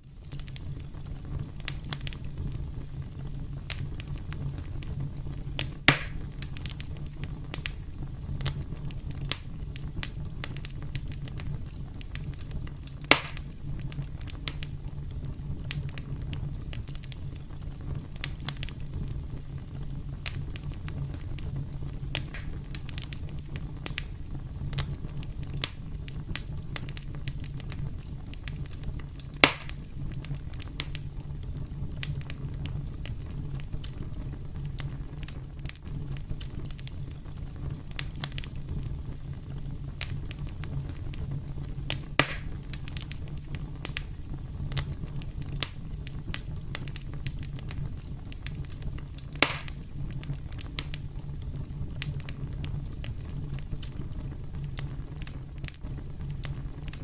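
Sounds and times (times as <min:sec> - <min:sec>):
burning wood popping: 0:00.0 - 0:57.0
campfire crackling: 0:00.0 - 0:57.0.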